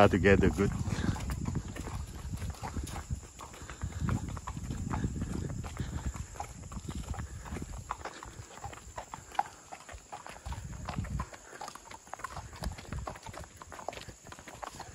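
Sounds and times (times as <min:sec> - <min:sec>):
hooves clip-clopping on asphalt: 0:00.0 - 0:14.9.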